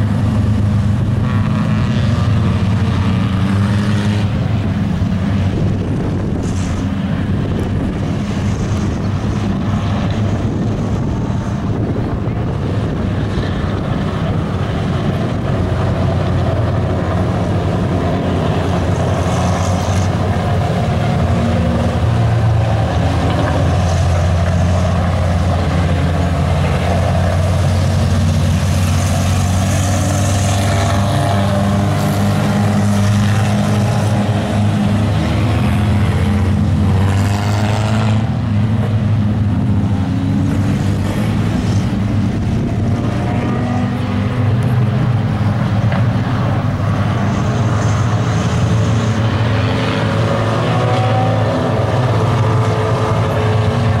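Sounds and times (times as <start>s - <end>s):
race cars passing by: 0.0s - 54.0s.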